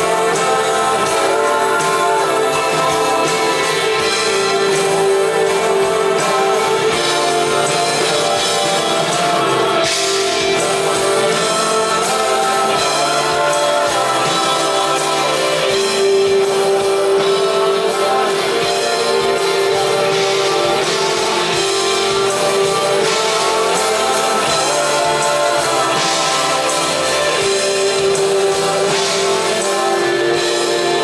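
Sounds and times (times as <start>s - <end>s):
drums: 0.0s - 31.0s
electric guitars: 0.0s - 31.0s
person singing: 0.0s - 31.0s.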